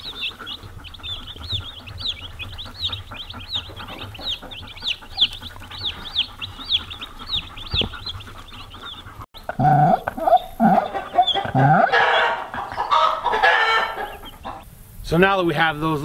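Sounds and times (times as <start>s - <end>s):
chicks peeping: 0.0s - 14.7s
chickens clucking: 0.0s - 14.8s.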